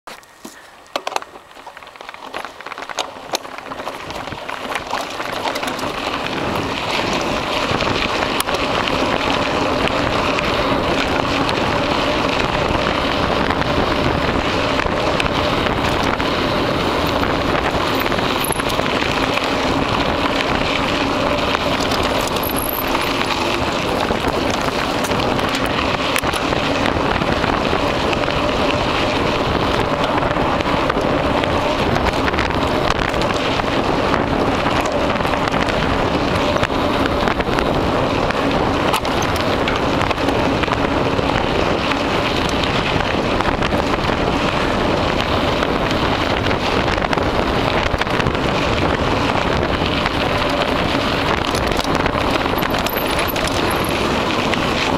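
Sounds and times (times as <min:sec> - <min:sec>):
bike tyres rolling on dirt: 0:00.1 - 0:54.9
wind buffeting microphone: 0:00.8 - 0:54.9.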